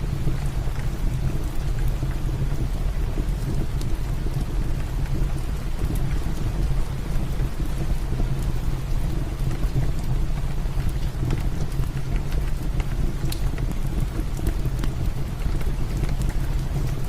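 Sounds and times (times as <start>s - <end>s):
heavy rain falling: 0.0s - 17.0s
wood fire crackling: 0.0s - 17.0s.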